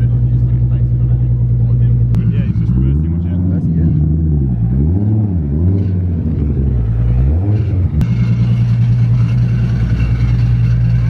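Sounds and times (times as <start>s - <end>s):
car engines idling and revving: 0.0s - 11.0s.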